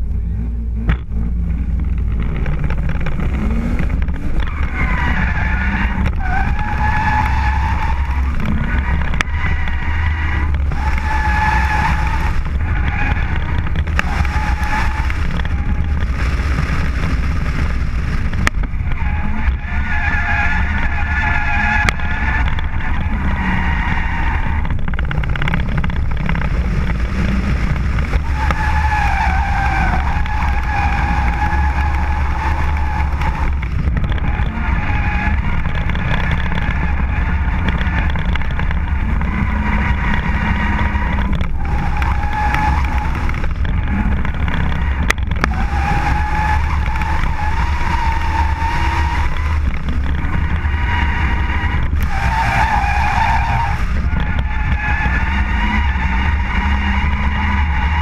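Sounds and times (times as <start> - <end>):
car engine rumble: 0.0 - 58.0
wind buffeting on camera: 0.9 - 19.9, 20.7 - 58.0
tyres squealing: 2.2 - 16.6, 18.8 - 58.0.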